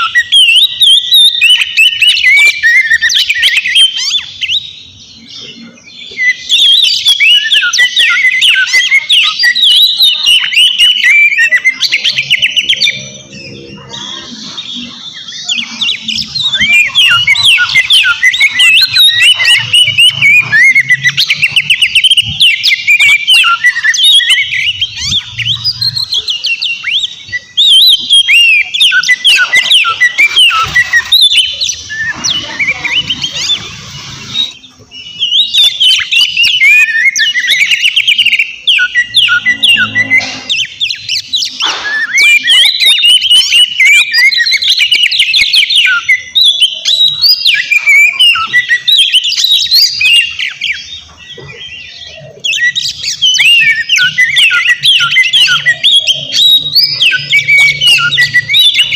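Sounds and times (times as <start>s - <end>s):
bird singing whistles and trills: 0.0s - 58.9s.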